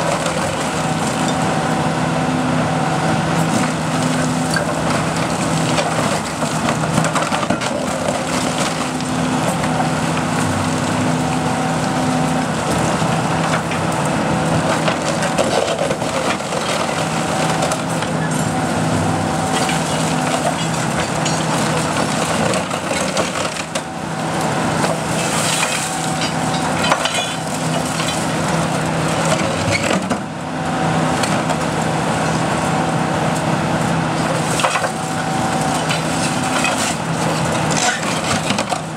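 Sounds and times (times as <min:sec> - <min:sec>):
excavator diesel engine running: 0:00.0 - 0:38.9
hydraulic shear crushing debris: 0:00.0 - 0:38.9.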